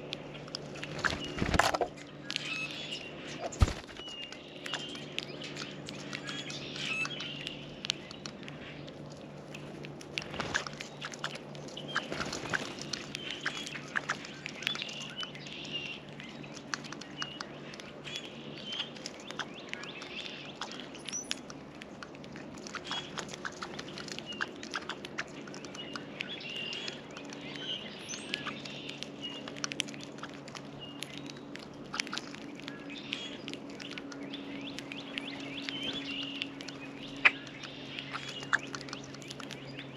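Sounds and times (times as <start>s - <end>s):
songbirds chirping: 0.0s - 39.9s
steady low hum: 0.0s - 39.9s.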